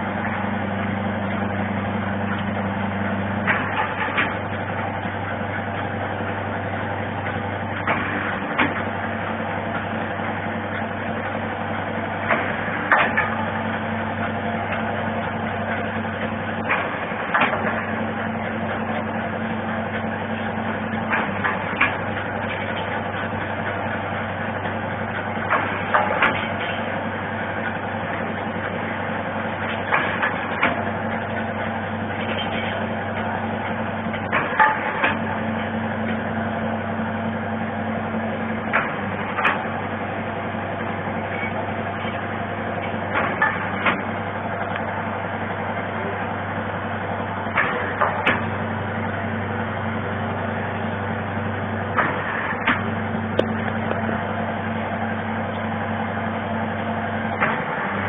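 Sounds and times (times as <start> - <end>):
machine motor hum: 0.0 - 58.0.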